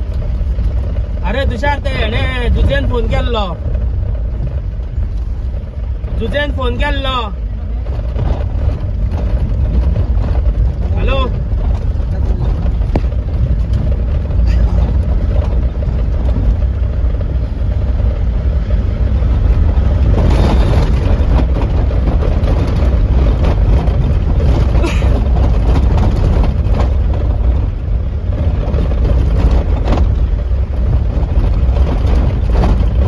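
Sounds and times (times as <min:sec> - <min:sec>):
knocks and rattles: 0:00.0 - 0:33.0
vehicle engine and tyres rumbling: 0:00.0 - 0:33.0.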